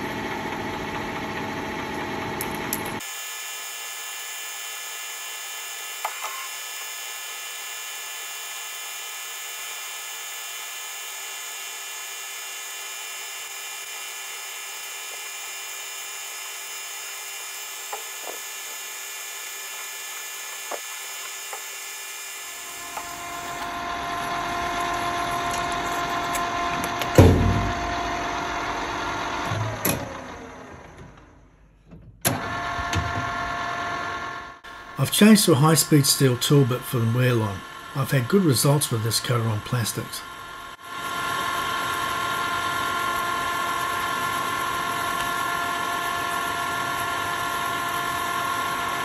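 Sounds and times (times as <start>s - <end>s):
metal lathe whine: 0.0s - 31.0s, 32.4s - 49.0s.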